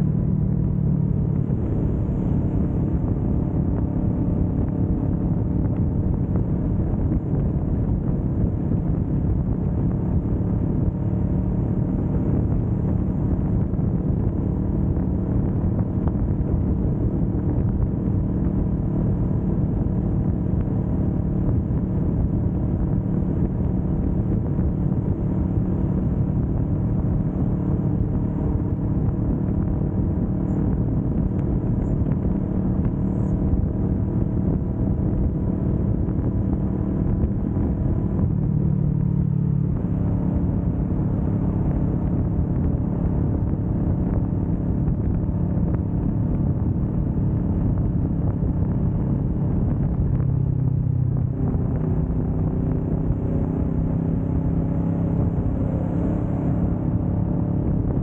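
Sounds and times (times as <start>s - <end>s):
motorcycle engine humming: 0.0s - 58.0s.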